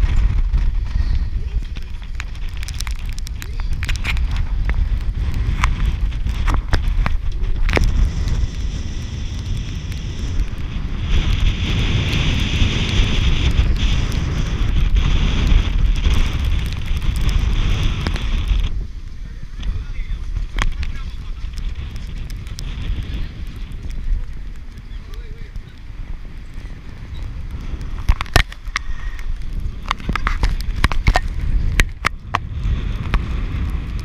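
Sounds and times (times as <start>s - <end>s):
crackles: 0.0s - 34.0s
wind buffeting microphone: 0.0s - 34.0s.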